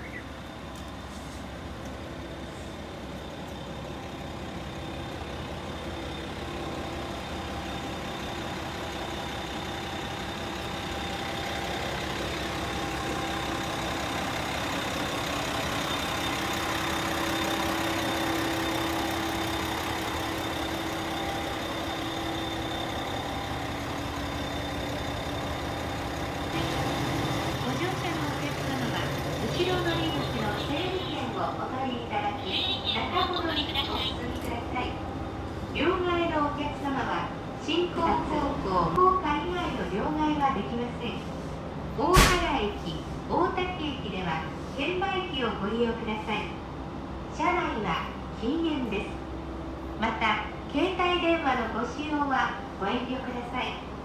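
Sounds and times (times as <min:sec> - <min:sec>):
diesel engine idling: 0:00.0 - 0:47.3.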